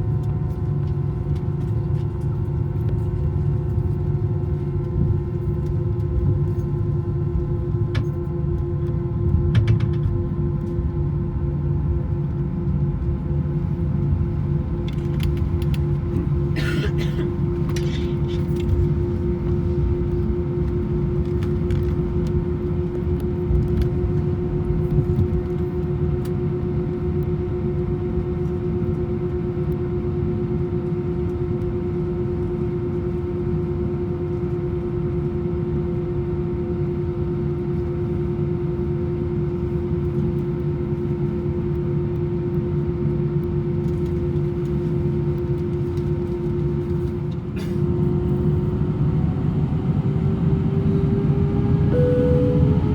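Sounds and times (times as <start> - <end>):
jet engines droning in cabin: 0.0 - 52.9.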